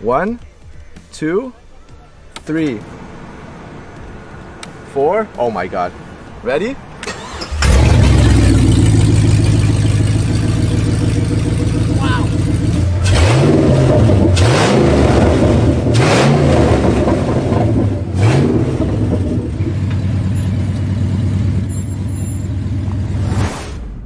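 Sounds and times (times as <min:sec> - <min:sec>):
car engine revving: 0:02.8 - 0:23.7.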